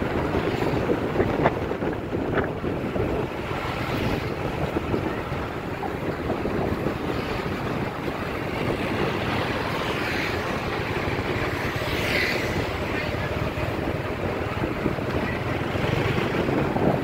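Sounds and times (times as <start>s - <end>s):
road and traffic noise: 0.0s - 17.0s
wind buffeting microphone: 0.0s - 17.0s.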